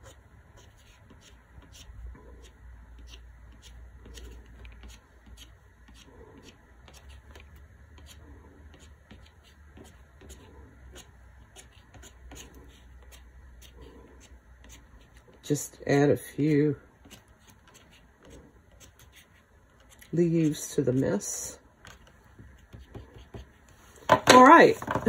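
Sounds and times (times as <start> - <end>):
crayon scratching on paper: 0.0 - 15.4, 16.4 - 21.2, 21.9 - 23.6.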